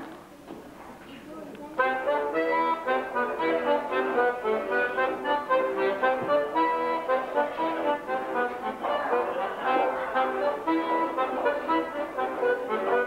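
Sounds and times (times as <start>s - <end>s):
accordion playing lively tune: 1.8s - 13.0s.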